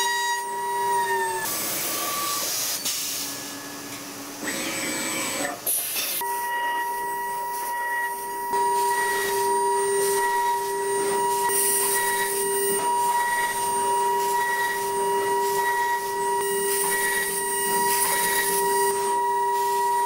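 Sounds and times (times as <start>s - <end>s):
milling spindle high whine: 0.0s - 2.5s, 6.2s - 20.0s.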